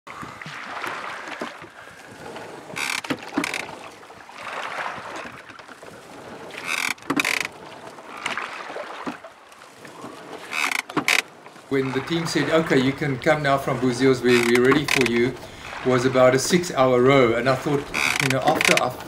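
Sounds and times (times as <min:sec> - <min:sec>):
oars clattering: 0:00.0 - 0:19.0
water swishing: 0:00.1 - 0:19.0.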